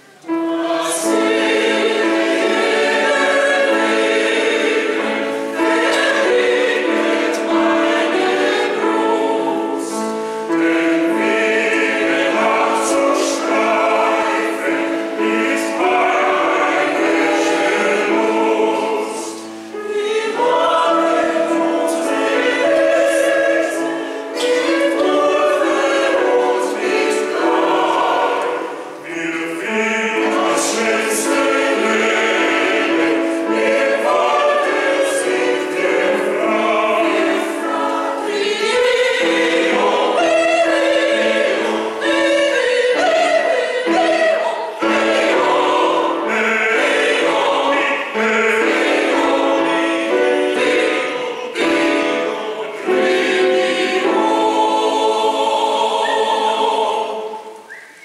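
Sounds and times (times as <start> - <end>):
mixed choir singing: 0.0 - 58.0
piano: 0.0 - 58.0.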